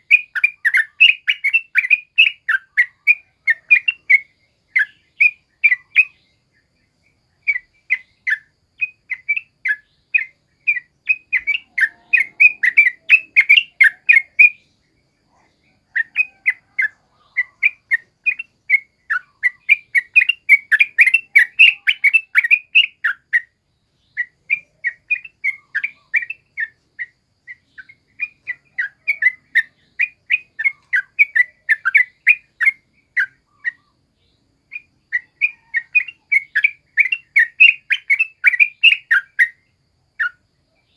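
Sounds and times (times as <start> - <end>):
bulbul singing: 0.0 - 40.9.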